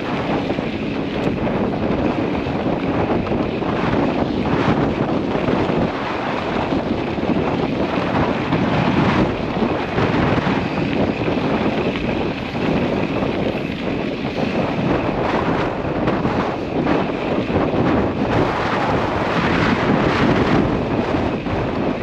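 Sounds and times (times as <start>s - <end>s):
off-road vehicle running: 0.0s - 22.0s
wind buffeting microphone: 0.0s - 22.0s.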